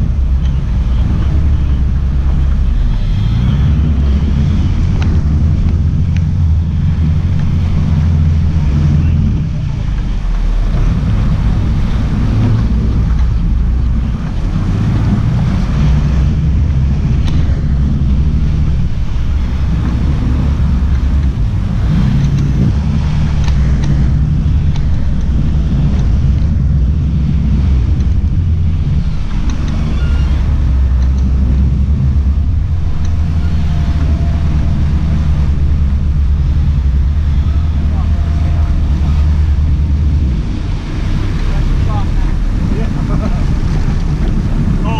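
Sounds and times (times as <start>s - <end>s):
boat engines droning: 0.0s - 44.9s
wake rushing: 0.0s - 44.9s
wind buffeting microphone: 0.0s - 44.9s.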